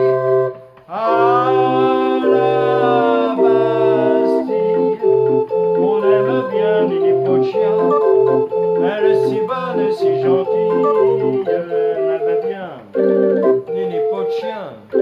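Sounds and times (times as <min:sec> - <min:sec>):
crank organ playing: 0:00.0 - 0:15.0.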